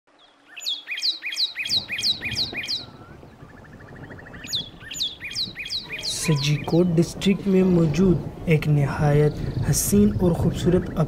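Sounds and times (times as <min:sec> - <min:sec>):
bird singing: 0:00.1 - 0:11.0.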